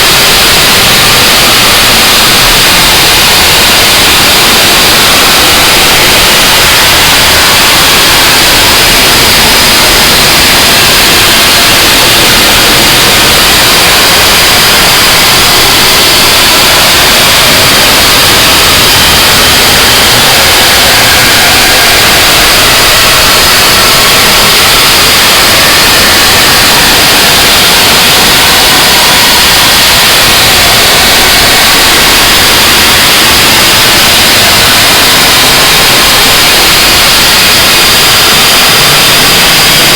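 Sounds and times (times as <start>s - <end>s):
harsh noise wall music: 0.0s - 39.9s.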